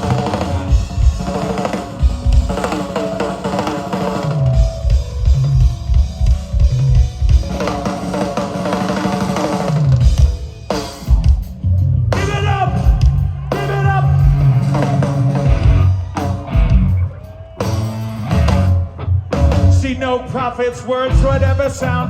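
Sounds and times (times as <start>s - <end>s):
rock drum kit: 0.0s - 22.0s.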